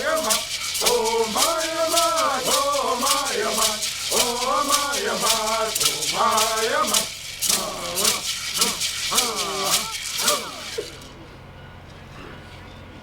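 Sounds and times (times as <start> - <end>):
gourd rattles shaken: 0.0 - 11.2
voices chanting: 0.0 - 11.5.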